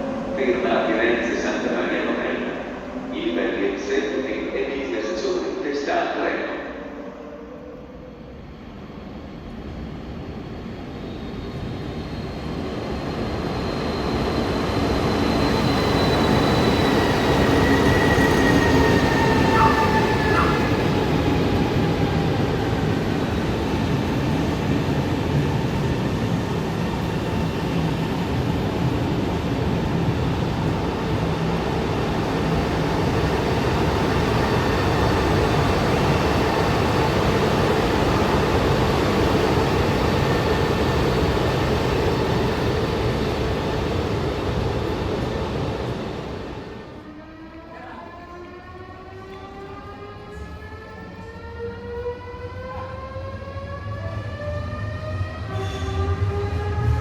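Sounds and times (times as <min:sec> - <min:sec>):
electric train rumble: 0:00.0 - 0:57.0
train whine: 0:00.0 - 0:57.0.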